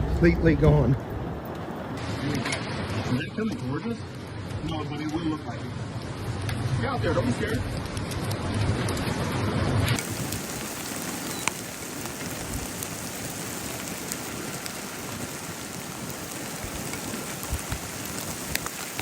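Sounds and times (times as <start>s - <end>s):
steady rain with ticking drops: 0.2s - 19.0s.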